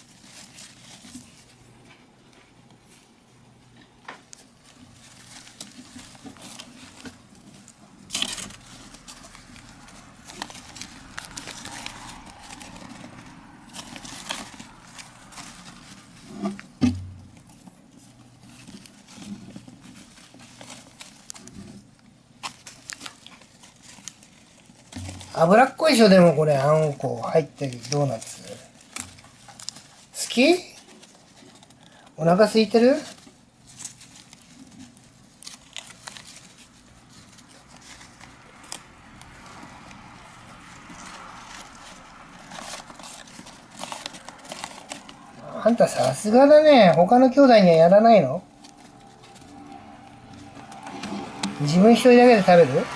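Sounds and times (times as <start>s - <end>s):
paper bedding rustling: 0.0s - 1.9s, 4.2s - 52.9s.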